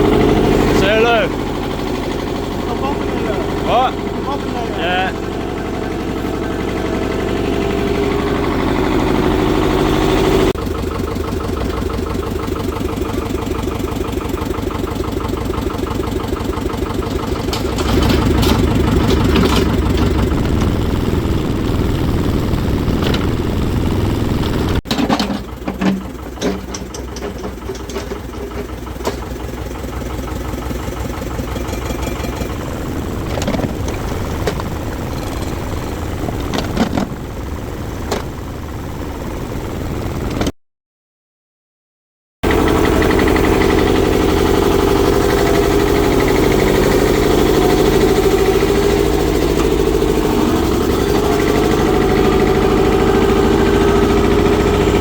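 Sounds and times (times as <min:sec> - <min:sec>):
construction machine engine: 0:00.0 - 0:40.6, 0:42.4 - 0:55.0.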